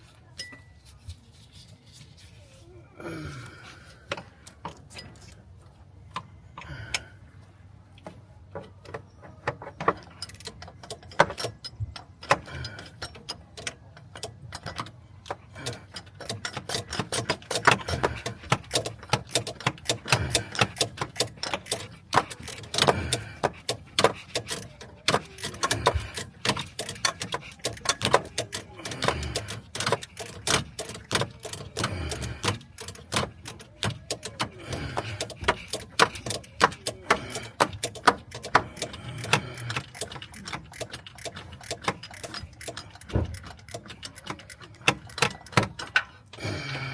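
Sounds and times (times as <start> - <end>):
hand ratchet clicking: 8.9 - 46.9.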